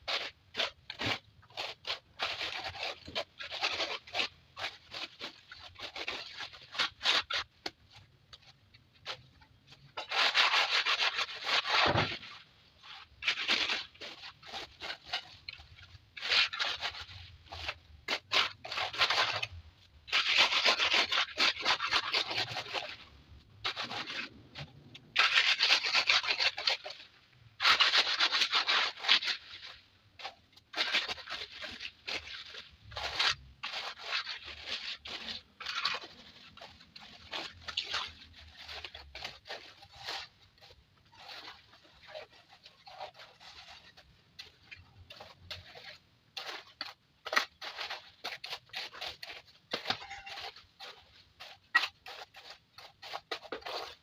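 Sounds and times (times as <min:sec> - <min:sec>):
scraping on gritty surface: 0:00.1 - 0:54.0.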